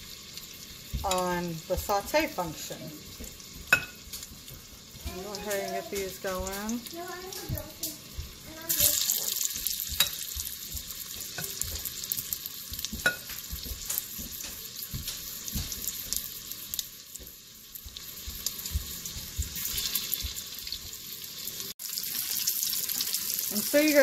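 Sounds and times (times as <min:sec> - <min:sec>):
meatballs sizzling in a pot: 0:00.0 - 0:24.0.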